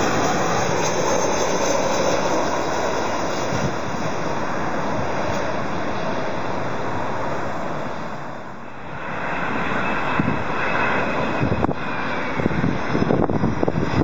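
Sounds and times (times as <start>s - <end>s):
jet engines rushing and rumbling: 0.0s - 14.0s.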